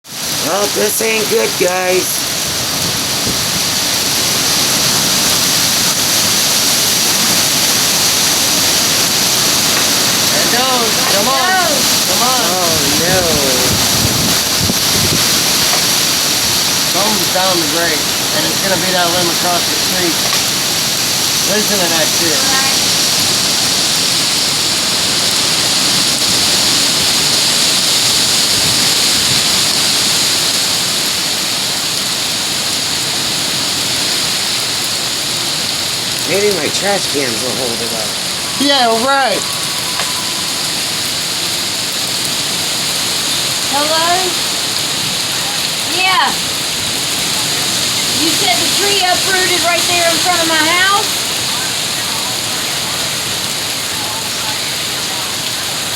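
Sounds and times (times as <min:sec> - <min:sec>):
driving rain: 0:00.0 - 0:55.9
hurricane wind: 0:00.0 - 0:55.9.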